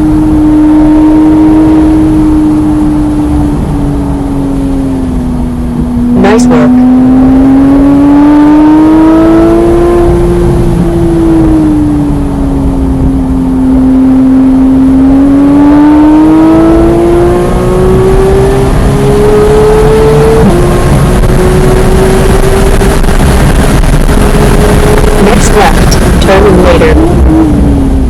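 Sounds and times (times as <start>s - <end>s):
car engine revving at speed: 0.0s - 28.0s.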